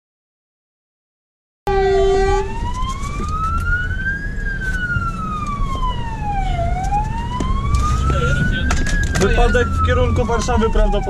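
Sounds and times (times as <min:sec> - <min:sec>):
fire engine siren wailing: 0:01.7 - 0:11.0
truck engine and road rumble: 0:01.7 - 0:11.0.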